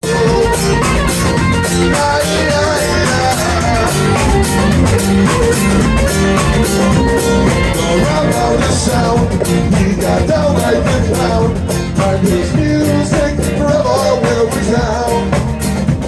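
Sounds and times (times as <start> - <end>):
drum kit steady beat: 0.0 - 16.0
electric guitar playing: 0.0 - 16.0.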